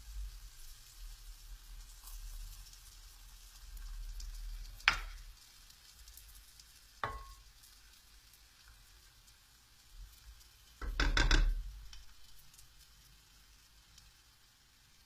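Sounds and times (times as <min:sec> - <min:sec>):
batter sizzling in a pan: 0:00.0 - 0:15.0.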